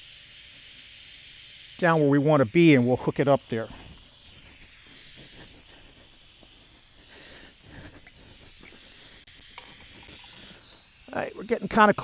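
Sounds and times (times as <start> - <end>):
gas hissing from valve: 0.0 - 12.0.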